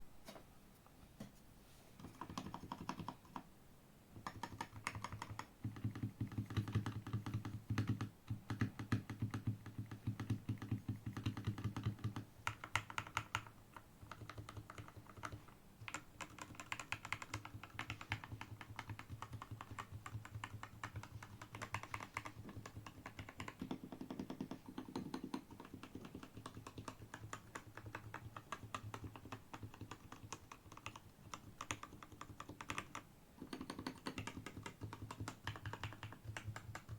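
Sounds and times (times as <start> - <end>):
mechanical keyboard typing: 2.0 - 3.4, 4.2 - 36.9.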